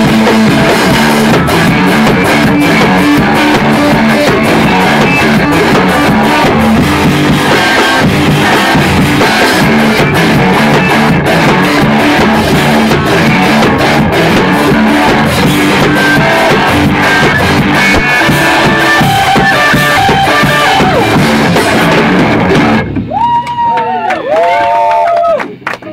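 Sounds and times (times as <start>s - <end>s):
loud live rock band: 0.0s - 24.0s.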